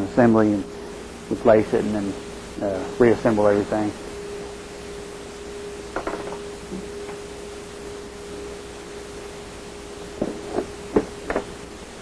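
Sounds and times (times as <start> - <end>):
steady even tone: 0.0 - 12.0.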